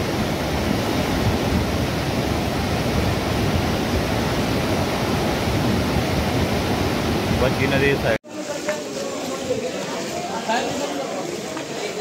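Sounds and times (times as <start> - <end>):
roar of muddy river in spate: 0.0 - 12.0.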